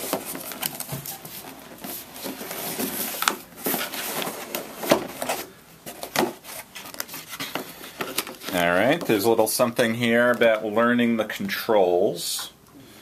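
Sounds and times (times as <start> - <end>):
cardboard and paper rustling: 0.0 - 11.6.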